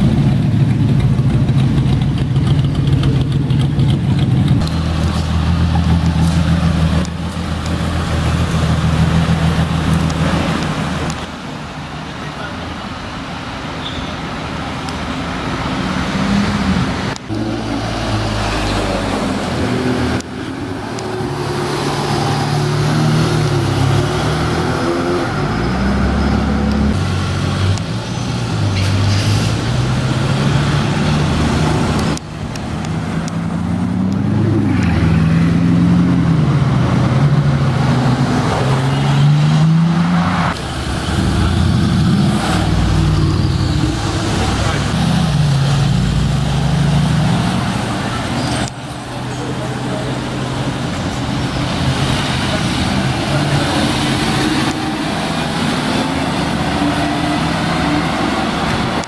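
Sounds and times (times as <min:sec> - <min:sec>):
car engines accelerating: 0:00.0 - 0:59.0.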